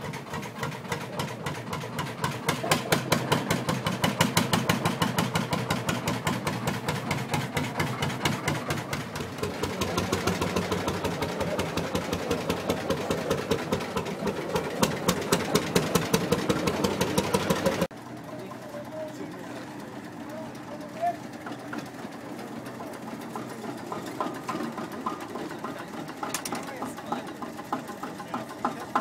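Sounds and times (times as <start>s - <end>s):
tractor engine chugging: 0.0s - 29.0s.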